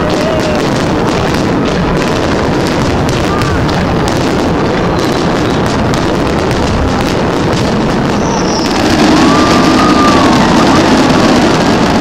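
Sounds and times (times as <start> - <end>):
firework whistle: 0.0 - 12.0
fireworks crackling and popping: 0.0 - 12.0.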